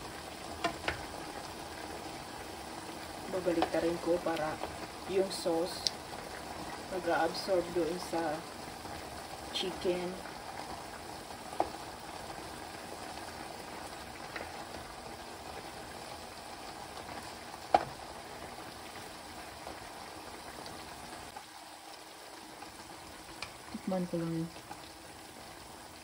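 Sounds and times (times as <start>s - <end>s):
chicken simmering in a pan: 0.0s - 26.0s.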